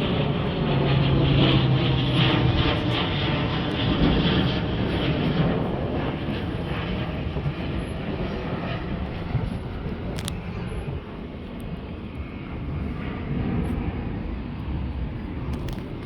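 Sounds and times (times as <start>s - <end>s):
military airplane flying over: 0.0s - 16.0s.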